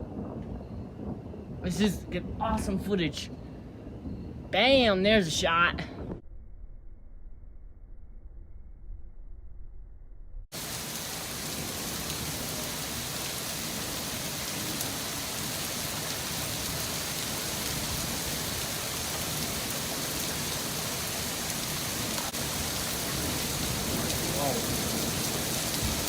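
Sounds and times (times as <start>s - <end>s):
steady rain hiss: 0.0s - 5.6s, 10.5s - 26.0s.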